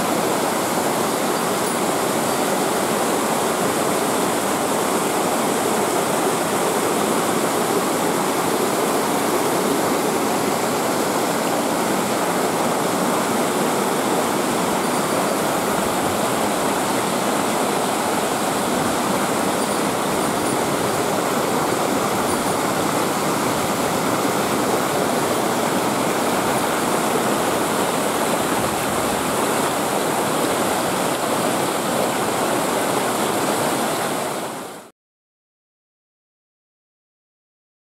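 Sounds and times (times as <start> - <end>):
waterfall pouring: 0.0 - 34.1.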